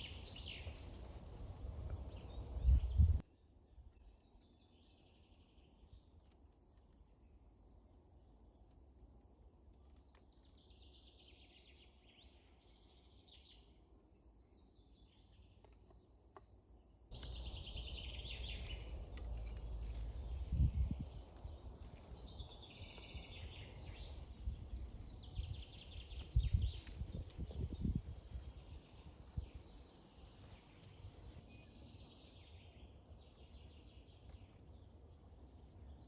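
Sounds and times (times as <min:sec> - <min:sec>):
songbirds trilling: 0:00.0 - 0:03.2, 0:10.0 - 0:36.0.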